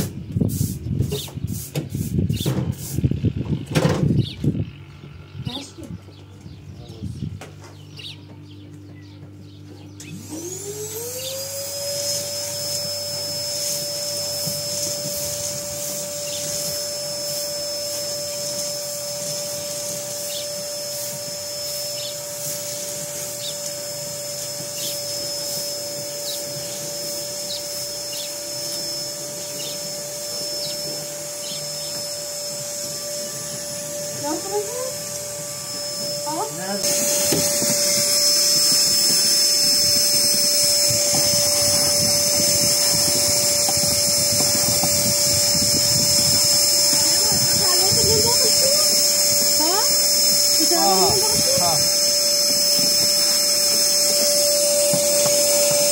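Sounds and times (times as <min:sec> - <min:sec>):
vacuum cleaner motor whine: 0:00.0 - 0:55.9.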